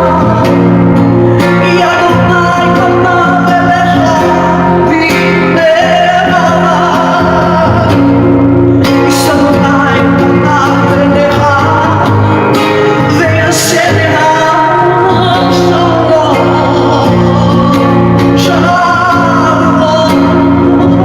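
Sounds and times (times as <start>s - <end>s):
singing with instrumental music: 0.0s - 21.0s.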